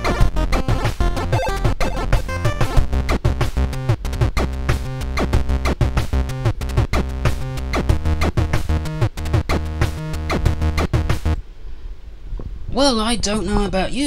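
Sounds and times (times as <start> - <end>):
chiptune electronic music: 0.0 - 11.4.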